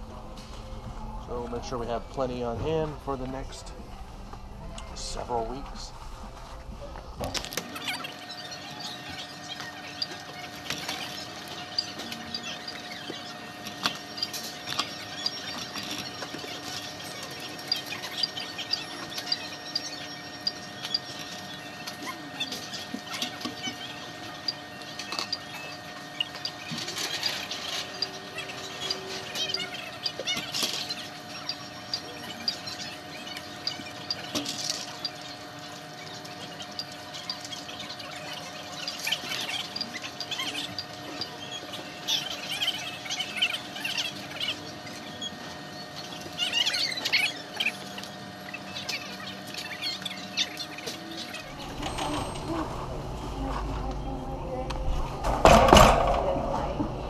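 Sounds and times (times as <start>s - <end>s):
store background hum: 0.0s - 57.0s.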